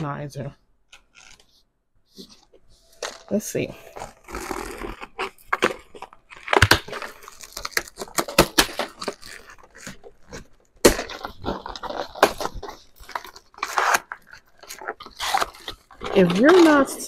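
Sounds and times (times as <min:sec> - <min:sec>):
packaging crinkling: 0:02.2 - 0:17.0.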